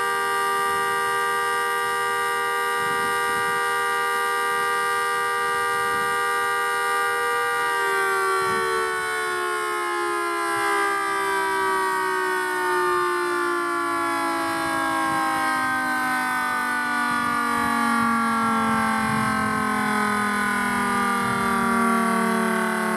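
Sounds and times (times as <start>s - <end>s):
warning siren two-note chord: 0.0s - 22.9s.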